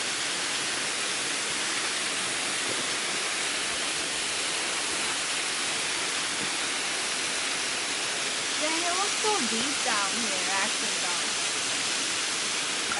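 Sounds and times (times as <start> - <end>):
waterfall pouring into pool: 0.0 - 12.9.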